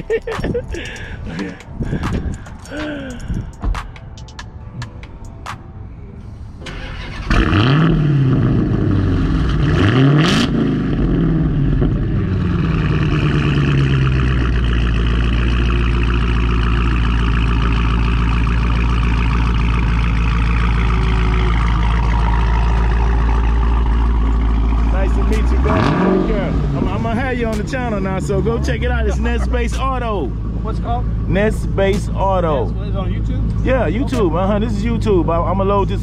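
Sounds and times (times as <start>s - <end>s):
car engine revving and idling: 6.2s - 36.0s.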